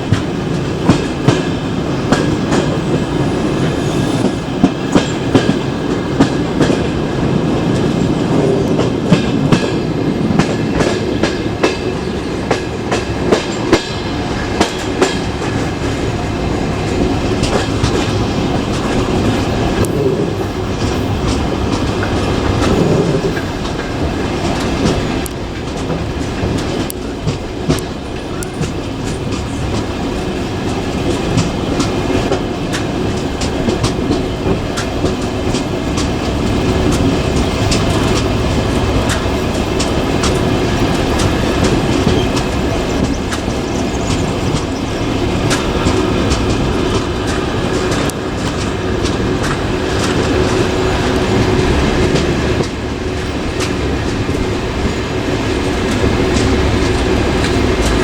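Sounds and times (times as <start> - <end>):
train rolling rumble: 0.0 - 58.0
wheels clacking over rail joints: 0.0 - 58.0.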